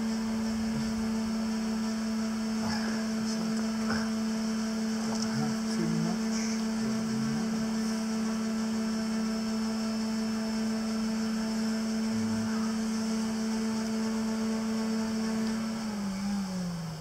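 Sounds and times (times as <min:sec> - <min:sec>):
low sustained music note: 0:00.0 - 0:16.4.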